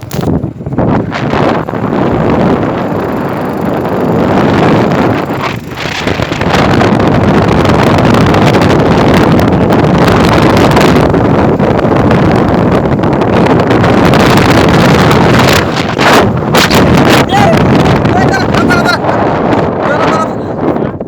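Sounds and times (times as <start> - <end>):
motorbike running: 0.0 - 21.0
wind buffeting microphone: 0.0 - 21.0.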